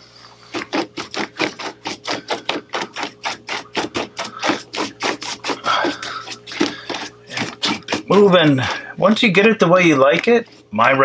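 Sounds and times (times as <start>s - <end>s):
paintbrush scrubbing on paper: 0.0s - 8.8s, 10.4s - 10.8s.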